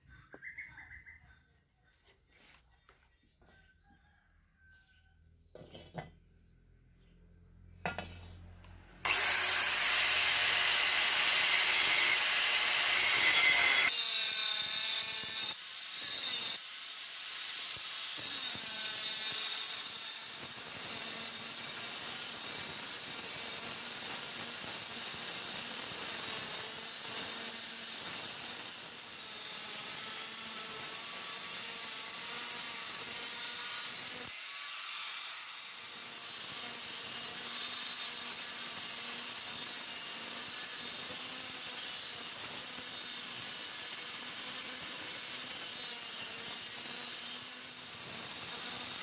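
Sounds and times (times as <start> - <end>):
power tool cutting steel: 7.8 - 49.0.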